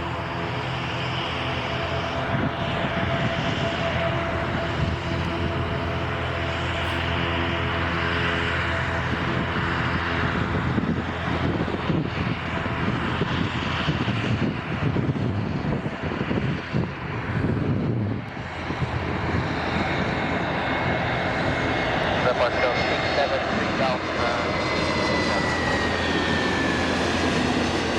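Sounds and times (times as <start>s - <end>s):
jet airliner engine rumble: 0.0s - 27.9s.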